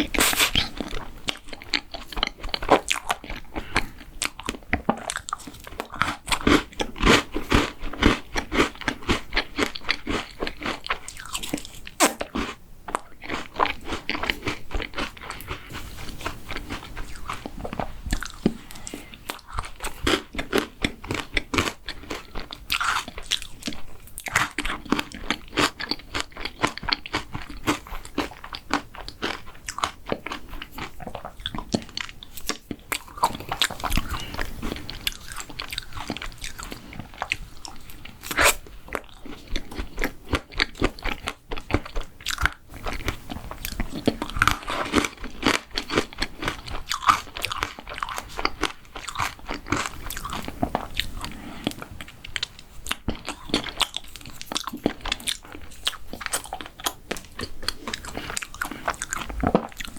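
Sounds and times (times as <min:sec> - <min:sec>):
crunching and chewing dessert: 0:00.0 - 0:59.9.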